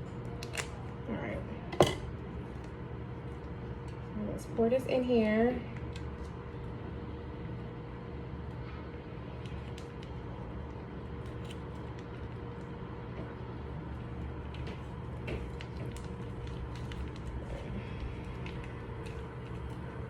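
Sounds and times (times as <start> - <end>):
stovetop droning: 0.0 - 20.0.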